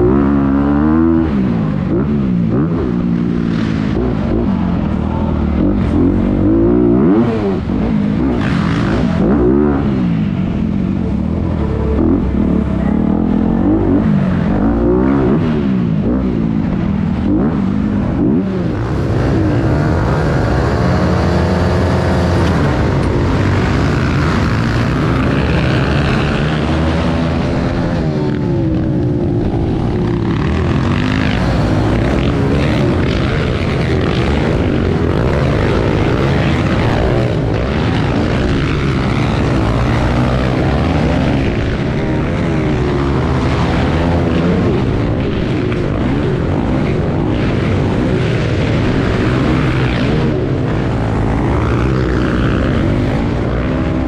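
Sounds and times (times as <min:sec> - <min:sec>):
other pit bikes running: 0:00.0 - 0:54.0
pit bike engine revving: 0:00.0 - 0:54.0.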